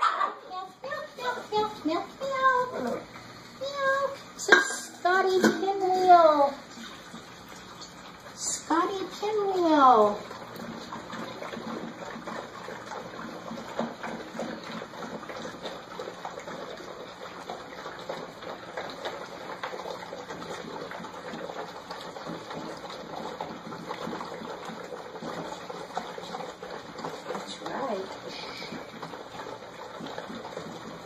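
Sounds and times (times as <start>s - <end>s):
puppies lapping and slurping: 0.0s - 31.0s.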